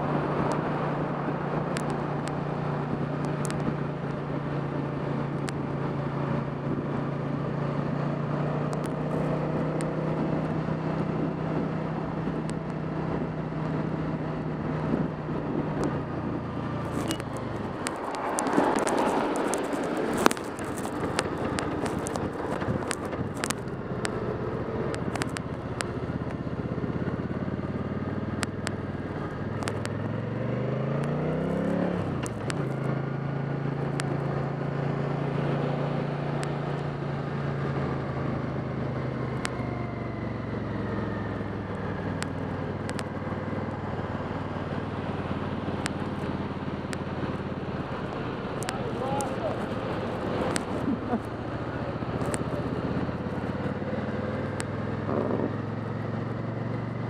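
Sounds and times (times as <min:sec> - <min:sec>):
motorcycle engine running: 0:00.0 - 0:57.0
wet road noise: 0:00.0 - 0:57.0.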